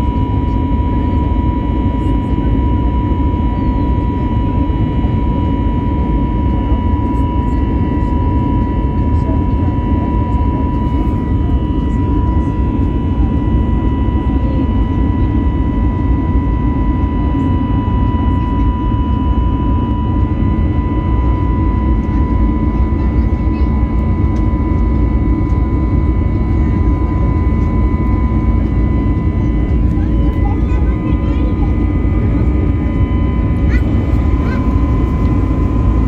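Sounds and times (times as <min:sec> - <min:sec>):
jet engine rumble and whine: 0:00.0 - 0:36.0.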